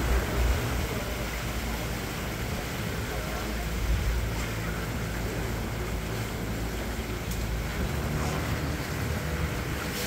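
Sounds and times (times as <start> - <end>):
boat engine drone: 0.0 - 10.0
wind and water rushing: 0.0 - 10.0.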